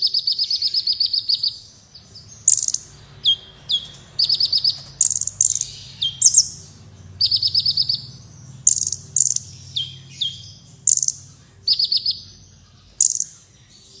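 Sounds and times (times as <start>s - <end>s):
sunbird chirping and trilling: 0.0s - 14.0s.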